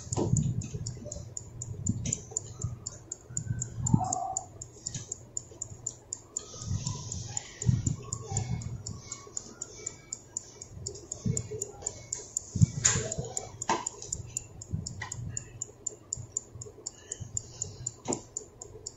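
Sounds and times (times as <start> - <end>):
fast clock ticking: 0.0 - 18.9.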